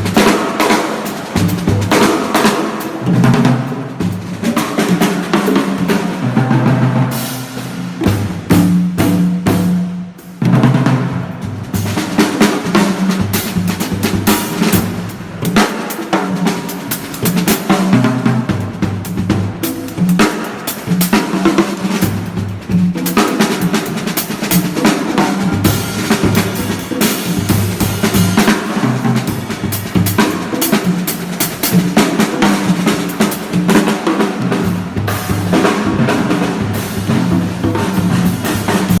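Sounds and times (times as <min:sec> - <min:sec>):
drum kit and percussion groove: 0:00.0 - 0:39.0.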